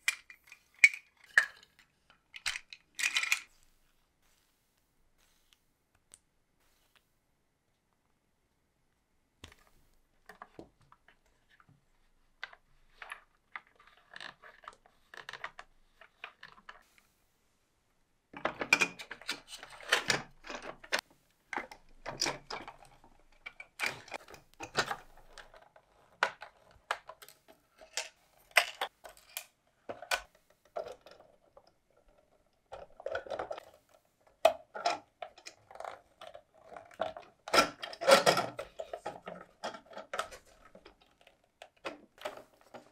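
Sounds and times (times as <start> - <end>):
plastic parts clicking and clattering: 0.0 - 3.8, 9.4 - 16.9, 18.3 - 42.9.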